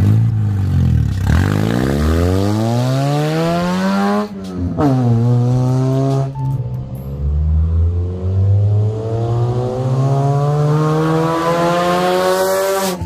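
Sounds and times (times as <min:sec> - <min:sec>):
loud car exhaust accelerating: 0:00.0 - 0:06.4, 0:07.2 - 0:13.0.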